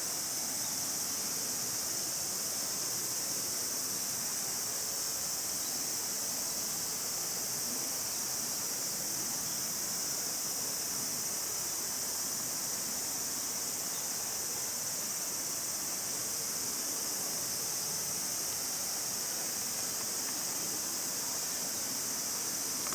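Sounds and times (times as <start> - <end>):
high-pitched insect chorus: 0.0 - 22.9.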